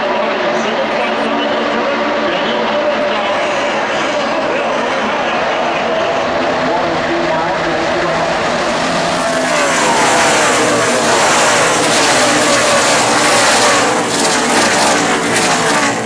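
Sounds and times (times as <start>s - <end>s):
race truck engines passing by: 0.0s - 16.0s.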